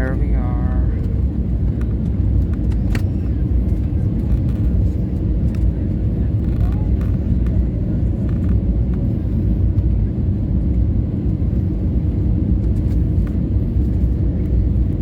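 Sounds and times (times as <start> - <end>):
airliner cabin low rumble: 0.0 - 15.0
engine and airflow noise: 0.0 - 15.0.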